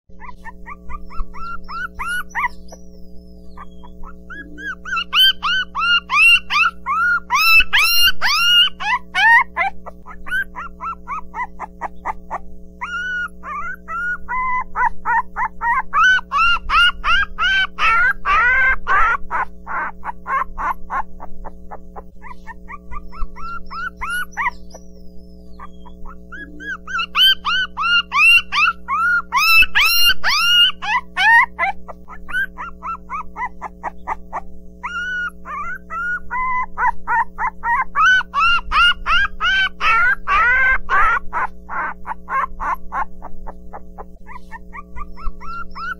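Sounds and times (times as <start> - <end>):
puppies whimpering and squealing: 0.1 - 45.9
steady low hum: 0.1 - 45.9.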